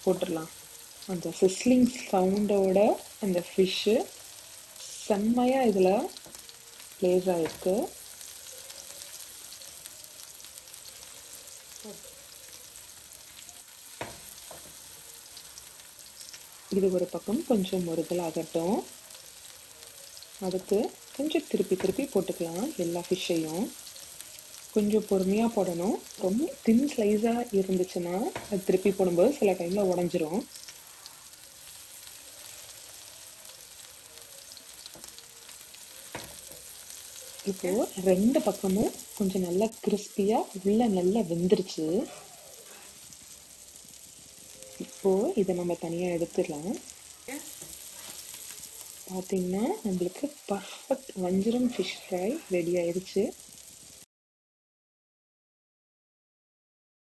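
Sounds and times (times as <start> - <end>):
fish sizzling in hot oil: 0.0 - 54.1.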